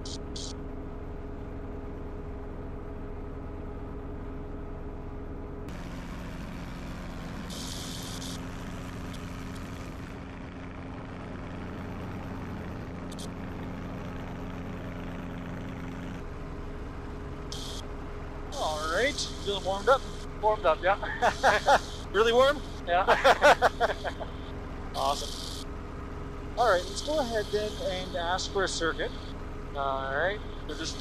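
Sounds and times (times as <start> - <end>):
helicopter engine and rotor drone: 0.0 - 31.0.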